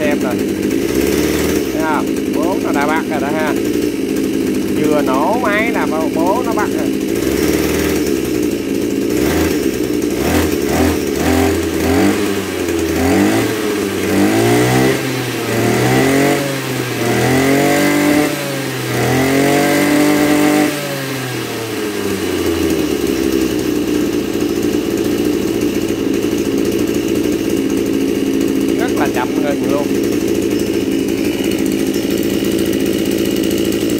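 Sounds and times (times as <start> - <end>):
brush cutter engine idling and revving: 0.0 - 33.9.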